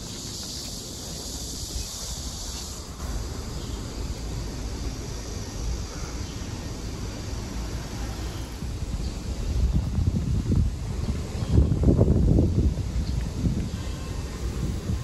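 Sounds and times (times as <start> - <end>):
steady high hiss: 0.0 - 15.0
wind rumbling on microphone: 0.0 - 15.0.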